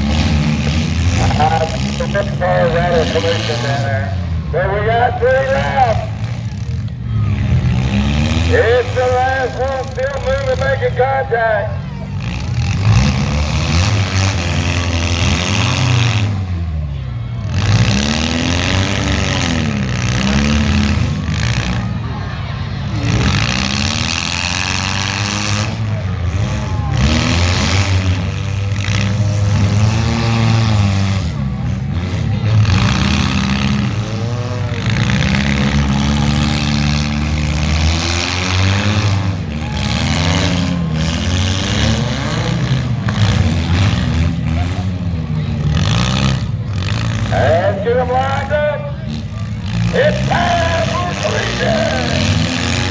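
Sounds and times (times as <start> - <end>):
car engines revving hard: 0.0 - 52.9.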